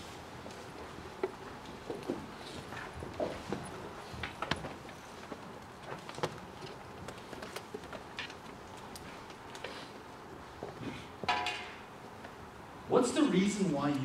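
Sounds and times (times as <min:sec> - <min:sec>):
footsteps on a stage: 0:00.0 - 0:11.3.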